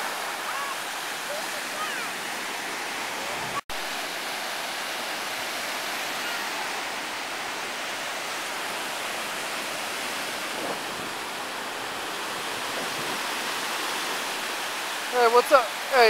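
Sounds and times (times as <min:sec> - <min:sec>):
small waves washing on sand: 0:00.0 - 0:16.0.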